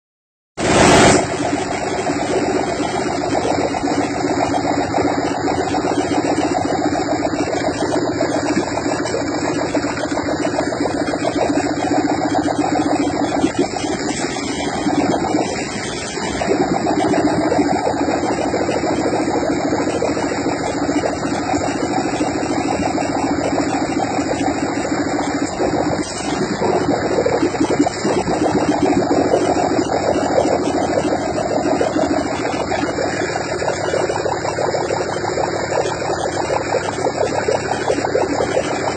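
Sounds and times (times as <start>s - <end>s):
three-cylinder engine running: 0.6s - 38.9s.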